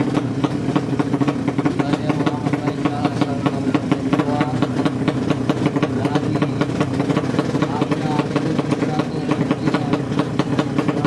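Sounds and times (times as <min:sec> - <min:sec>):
engine crackle: 0:00.0 - 0:11.0
motorcycle engine idling: 0:00.0 - 0:11.0.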